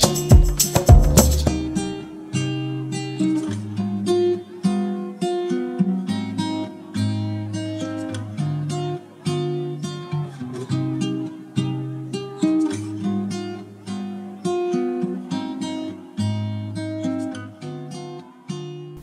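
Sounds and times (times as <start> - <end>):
acoustic guitar melody: 0.0 - 19.0.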